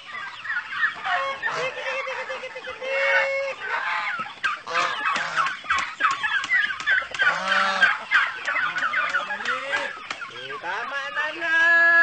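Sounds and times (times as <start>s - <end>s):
turkeys and chickens calling: 0.0s - 12.0s.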